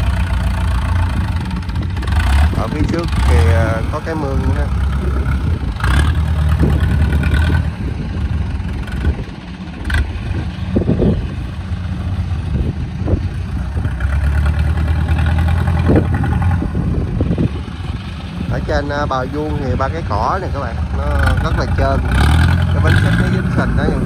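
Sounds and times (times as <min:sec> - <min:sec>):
engine working under load: 0:00.0 - 0:24.0.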